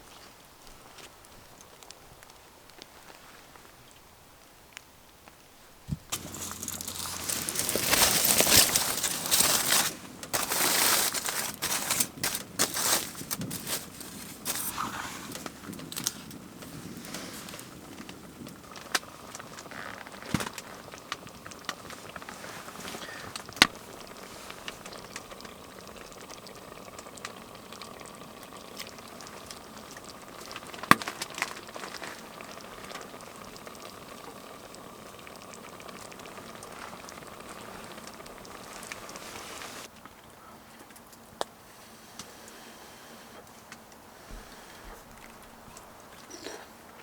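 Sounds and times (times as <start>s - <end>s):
food boiling in a pot: 0.0s - 47.0s.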